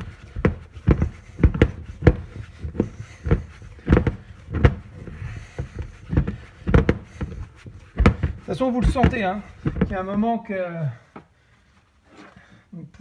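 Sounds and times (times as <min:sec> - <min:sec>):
dough being kneaded thumps: 0:00.0 - 0:10.5.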